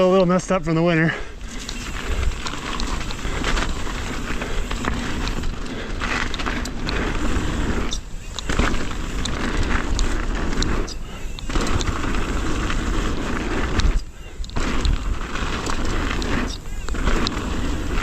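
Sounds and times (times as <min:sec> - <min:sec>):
bike tyres on dirt: 0:00.0 - 0:18.0
bike clicks and rattles: 0:01.0 - 0:18.0
wind rumble on microphone: 0:01.6 - 0:18.0.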